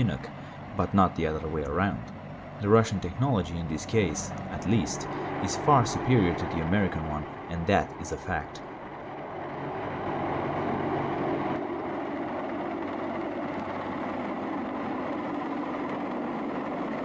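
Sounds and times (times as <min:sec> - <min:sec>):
helicopter engines and rotor: 0:00.0 - 0:17.0.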